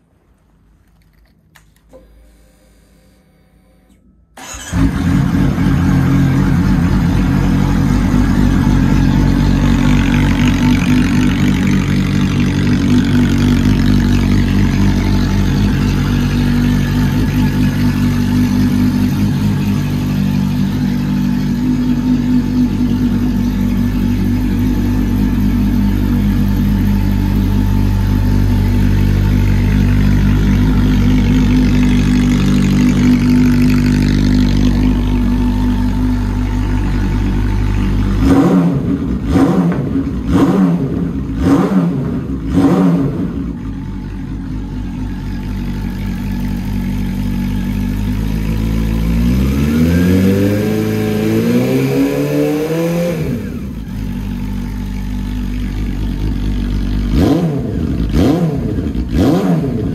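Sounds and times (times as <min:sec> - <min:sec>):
motorcycle engine idling: 0:04.4 - 0:59.9.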